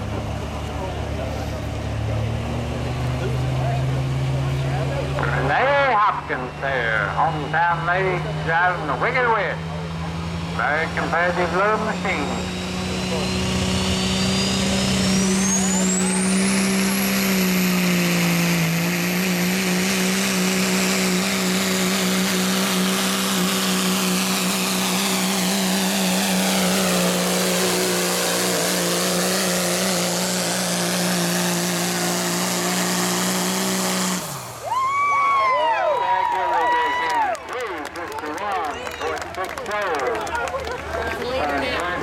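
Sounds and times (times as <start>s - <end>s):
high turbocharger whine: 0.0s - 38.7s
diesel truck engine at full throttle: 0.0s - 42.0s.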